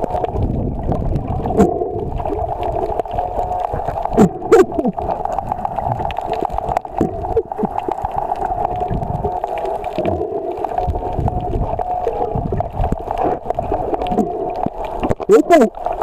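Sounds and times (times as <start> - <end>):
underwater knocks: 0.0 - 15.3
water gurgling and sloshing: 0.0 - 16.0.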